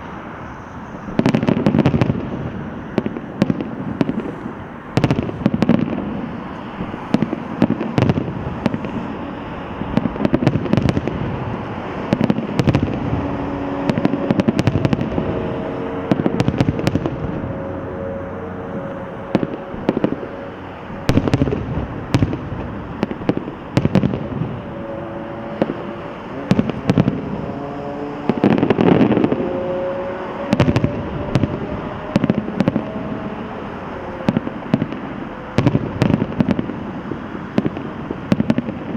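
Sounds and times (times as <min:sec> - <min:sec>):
constant rumble: 0:00.0 - 0:38.9
fireworks bangs and crackles: 0:00.0 - 0:38.9.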